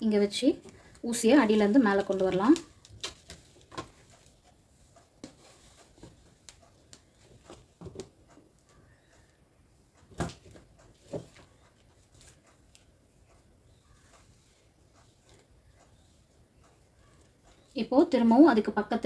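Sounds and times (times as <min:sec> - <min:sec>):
hands rustling fabric: 0:00.4 - 0:09.4, 0:10.0 - 0:17.8.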